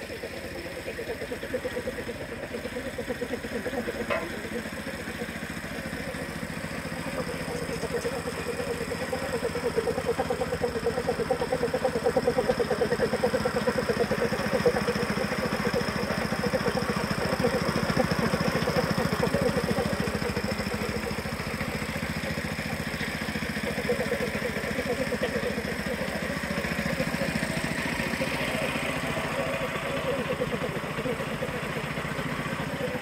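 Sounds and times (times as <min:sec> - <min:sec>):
small petrol engine chugging: 0:00.0 - 0:33.0.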